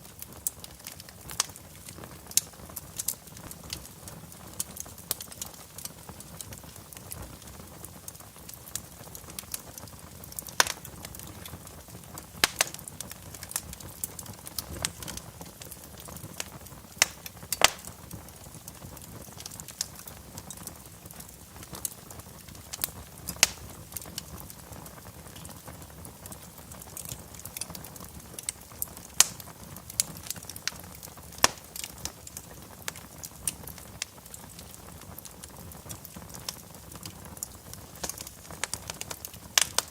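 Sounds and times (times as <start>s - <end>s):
low steady hiss: 0.0s - 39.9s
wood fire crackling: 0.0s - 39.9s.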